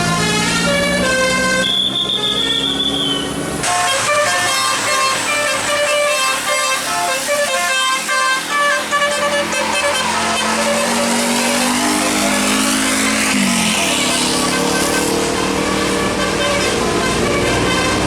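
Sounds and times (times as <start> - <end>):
musical air horns playing tune: 0.0 - 18.0.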